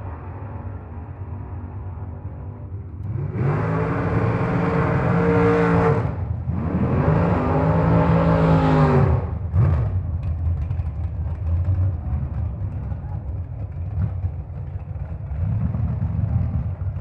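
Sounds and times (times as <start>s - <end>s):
race car engine at full throttle: 0.0s - 17.0s.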